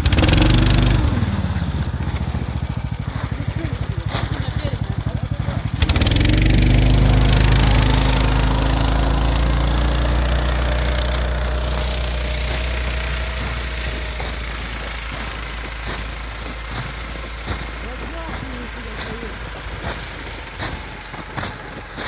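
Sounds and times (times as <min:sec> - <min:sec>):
snowmobile engine pulling away: 0:00.0 - 0:22.0.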